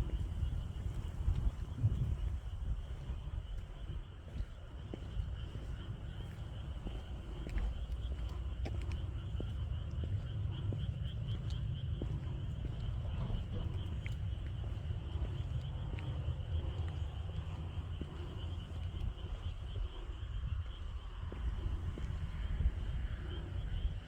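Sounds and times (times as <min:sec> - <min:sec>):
crickets chirping: 0:00.0 - 0:24.0
low rumble: 0:00.0 - 0:24.0.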